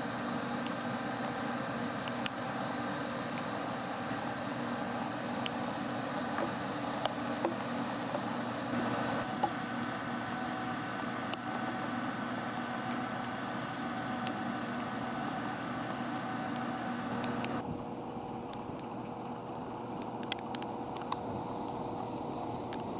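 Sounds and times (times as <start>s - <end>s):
jet engines humming: 0.0s - 22.9s.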